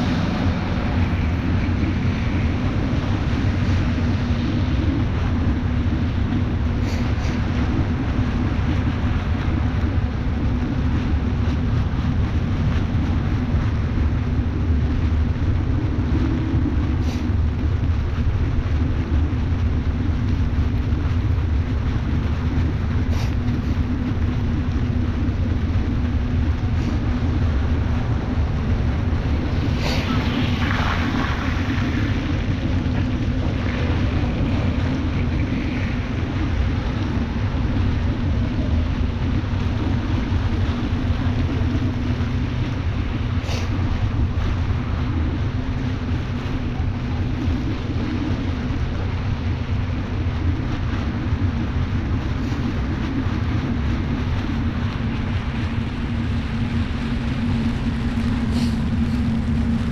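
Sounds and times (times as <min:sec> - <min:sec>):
bicycle tyres hissing on wet road: 0:00.0 - 0:50.6, 0:51.2 - 0:59.9
low rumble: 0:00.0 - 0:59.9
wind rush on microphone: 0:00.0 - 0:59.9.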